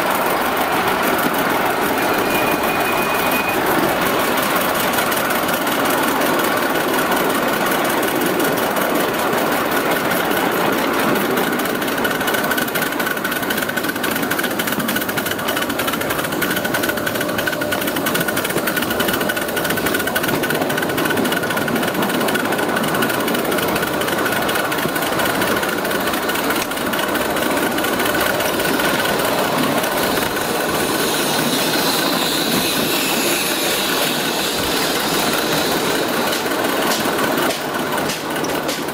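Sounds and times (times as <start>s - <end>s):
steam locomotive exhaust beat: 0.0s - 38.9s.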